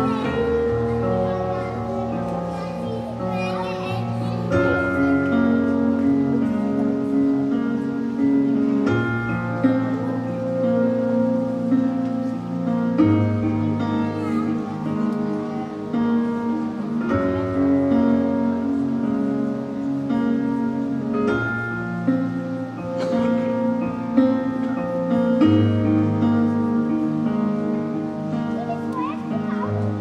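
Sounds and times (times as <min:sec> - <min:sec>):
plucked string melody: 0:00.0 - 0:30.0.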